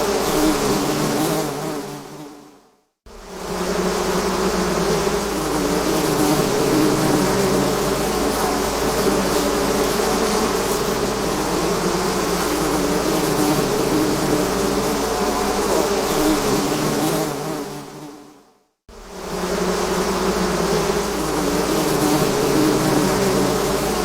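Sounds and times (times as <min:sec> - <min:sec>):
bees buzzing: 0:03.1 - 0:18.2, 0:18.9 - 0:24.0.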